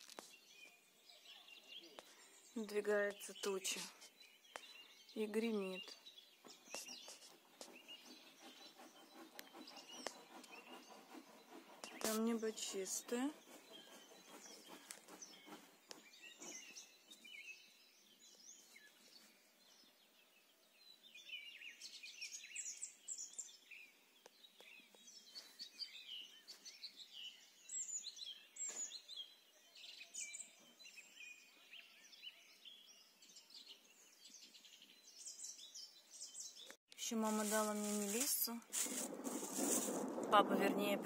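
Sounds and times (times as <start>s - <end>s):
songbirds singing and chirping: 0.0s - 41.0s.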